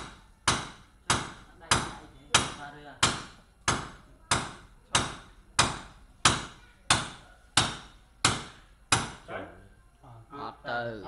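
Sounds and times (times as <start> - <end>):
hammer striking metal rod: 0.0 - 9.3.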